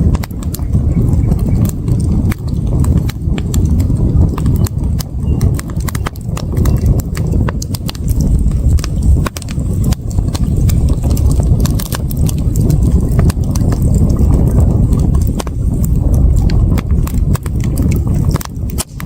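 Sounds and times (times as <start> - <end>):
campfire crackling and popping: 0.0 - 19.0
steady low rumble: 0.0 - 19.0.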